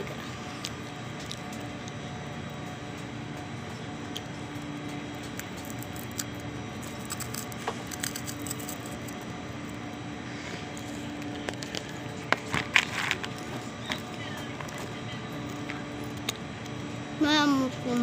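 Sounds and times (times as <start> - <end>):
popcorn being eaten: 0.0 - 16.9
steady background hum: 0.0 - 18.0.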